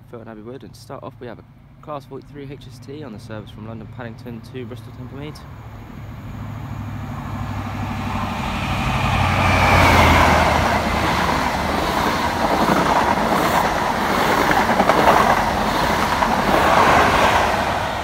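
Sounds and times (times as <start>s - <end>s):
diesel train engine drone: 0.0s - 18.0s
train wheels rumbling on rails: 2.5s - 18.0s.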